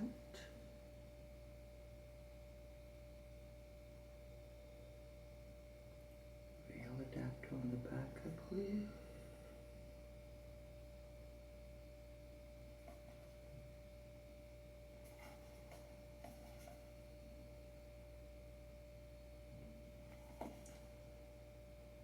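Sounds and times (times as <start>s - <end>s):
faint electrical tone: 0.0s - 22.0s.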